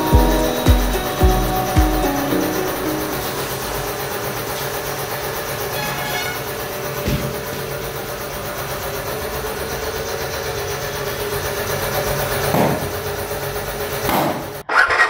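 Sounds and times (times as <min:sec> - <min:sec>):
machine motor humming: 0:00.0 - 0:13.8.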